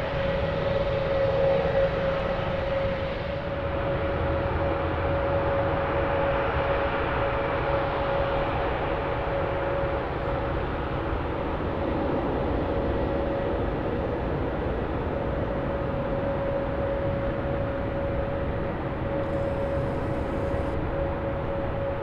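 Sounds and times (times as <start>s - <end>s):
jet engines rumbling and whining: 0.0s - 22.0s.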